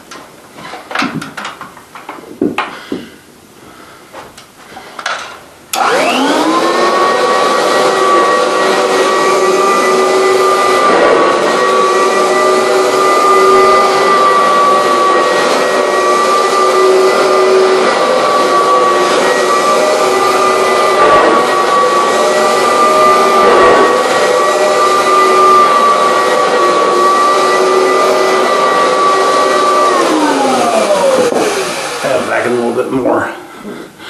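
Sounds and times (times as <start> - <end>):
vacuum cleaner motor whining: 5.1 - 33.8.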